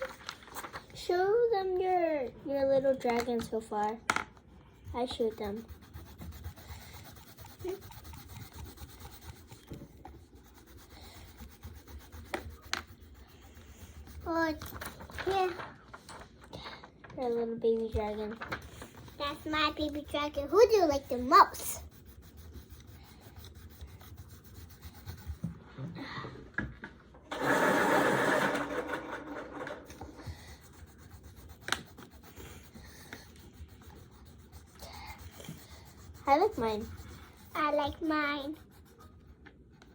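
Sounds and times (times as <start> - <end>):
colored pencils scratching on paper: 0.0 - 16.1, 17.1 - 26.0, 27.4 - 39.9.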